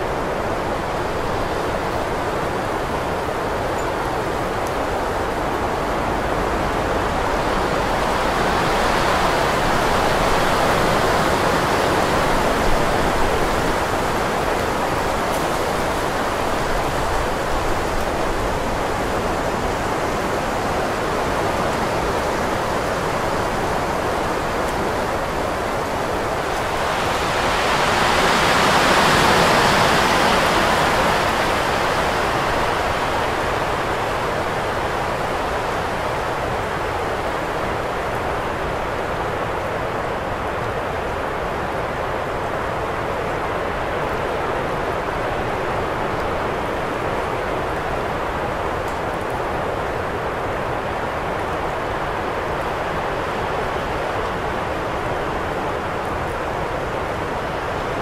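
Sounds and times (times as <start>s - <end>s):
wind blowing in gusts: 0.0s - 58.0s.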